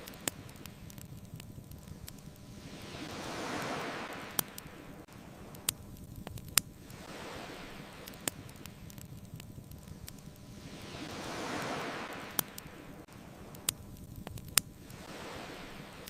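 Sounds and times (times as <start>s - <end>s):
bonfire crackling pops: 0.0s - 16.0s
ocean waves washing onto beach: 0.0s - 16.0s.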